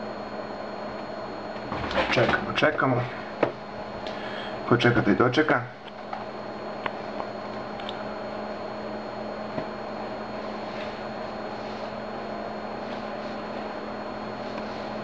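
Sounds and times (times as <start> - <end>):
room noise hum and hiss: 0.0 - 15.0.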